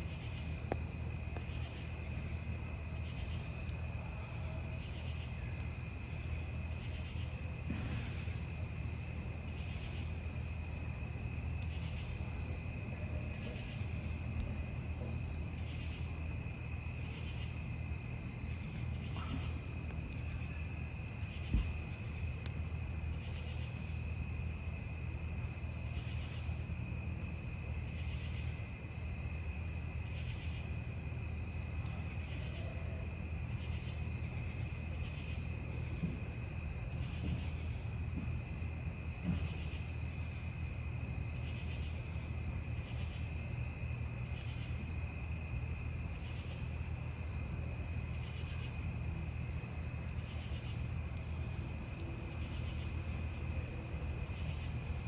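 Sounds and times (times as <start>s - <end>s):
campfire wood popping: 0.0s - 55.0s
crickets trilling: 0.0s - 55.0s.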